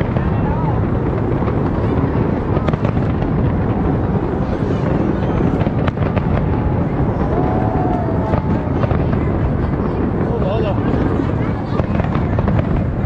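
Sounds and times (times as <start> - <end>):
deep firework booms: 0.0 - 13.0
sharp firework cracks: 0.0 - 13.0.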